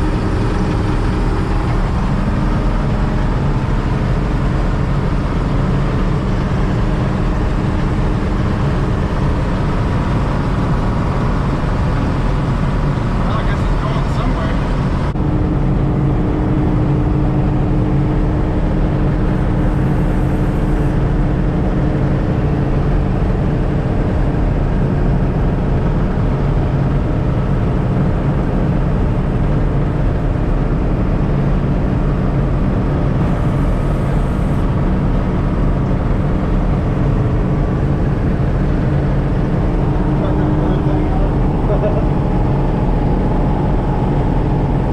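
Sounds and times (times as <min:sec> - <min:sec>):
combine engine running: 0:00.0 - 0:44.9
steady whine: 0:00.0 - 0:44.9.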